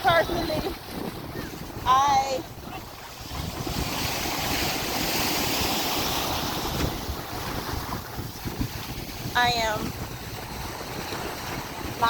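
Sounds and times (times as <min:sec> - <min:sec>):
surf washing over sand: 0:00.0 - 0:12.0
wind buffeting microphone: 0:00.0 - 0:12.0.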